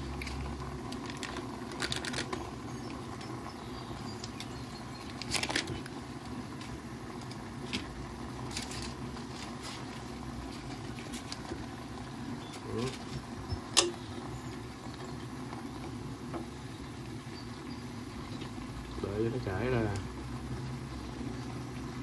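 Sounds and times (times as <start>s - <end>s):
garlic sizzling in a pan: 0.0s - 22.0s.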